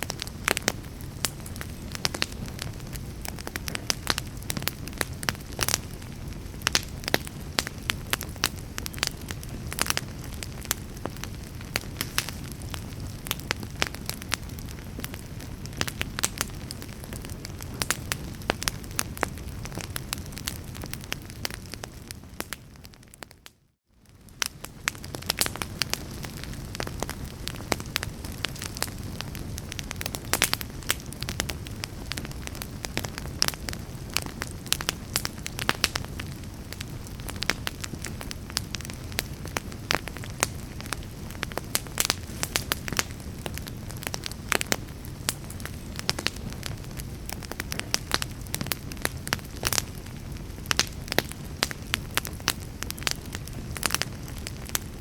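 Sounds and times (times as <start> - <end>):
logs burning in a fireplace: 0.0 - 55.0.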